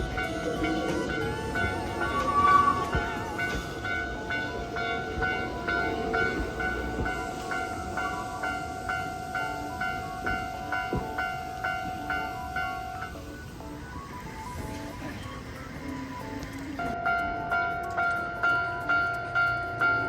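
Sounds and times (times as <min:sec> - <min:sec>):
level crossing warning bell ringing: 0:00.0 - 0:20.0
steady high tone: 0:00.0 - 0:20.0
train rumbling: 0:00.0 - 0:20.0.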